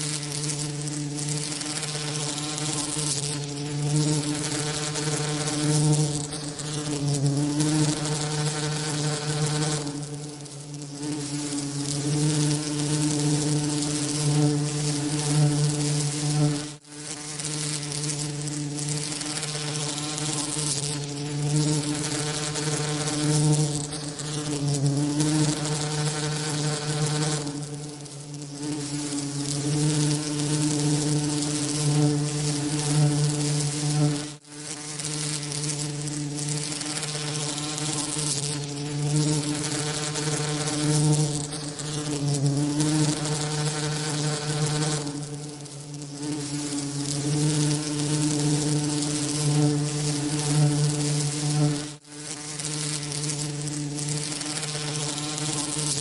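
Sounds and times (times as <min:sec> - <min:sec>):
bee wings buzzing: 0:00.0 - 0:56.0
steady hiss: 0:00.0 - 0:56.0.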